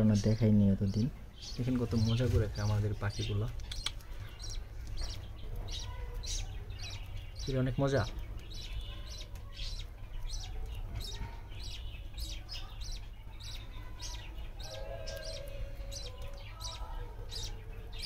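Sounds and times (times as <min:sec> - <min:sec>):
budgerigars chirping: 0:00.0 - 0:18.0.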